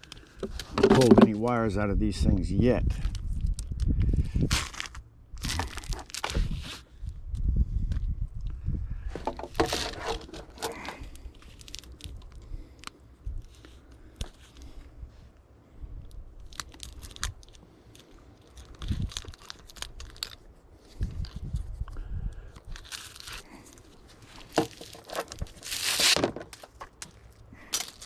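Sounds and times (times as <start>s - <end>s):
wires scraping and crinkling: 0.0s - 2.2s, 2.8s - 7.2s, 9.1s - 28.0s.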